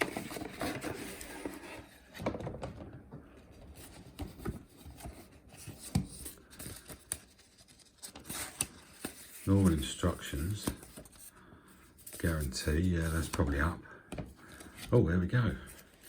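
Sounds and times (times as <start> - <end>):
paper packaging rustling: 0.0 - 13.8.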